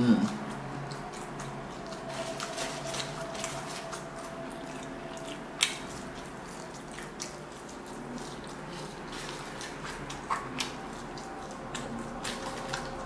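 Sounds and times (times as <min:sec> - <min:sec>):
wet chewing sounds: 0:00.1 - 0:13.0.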